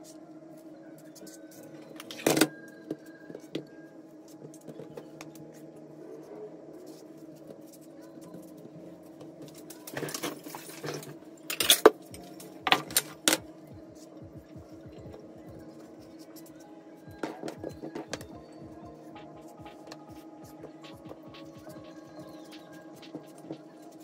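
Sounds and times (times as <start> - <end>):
steady hum: 3.8 - 24.0.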